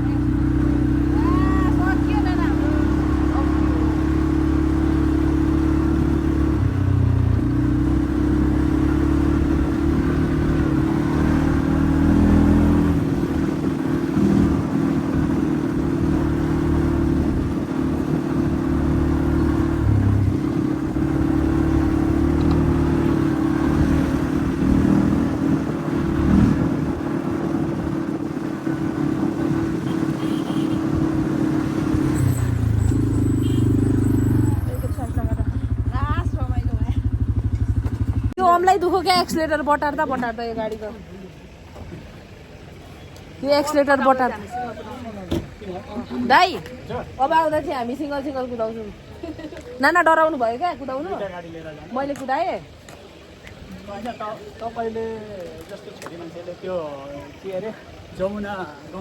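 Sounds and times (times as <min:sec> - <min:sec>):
quad bike engine droning: 0:00.0 - 0:47.9.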